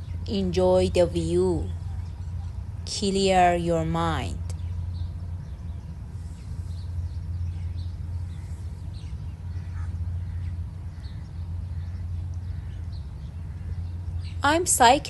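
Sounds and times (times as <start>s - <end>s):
birds chirping faintly: 0.0s - 15.0s
steady low rumble: 0.0s - 15.0s.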